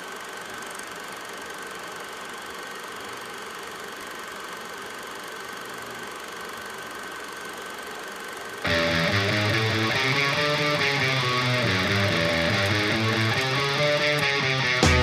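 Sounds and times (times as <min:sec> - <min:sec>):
mechanical hum: 0:00.0 - 0:15.0
faint high whine: 0:01.3 - 0:15.0.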